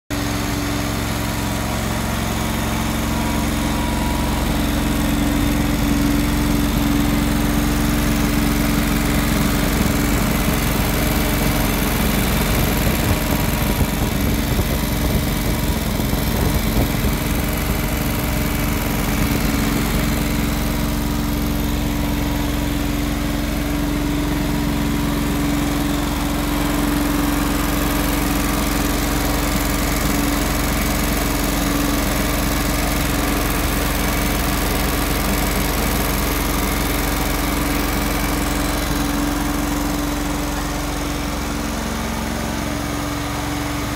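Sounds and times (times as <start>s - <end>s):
lawn tractor engine running: 0.1s - 43.9s.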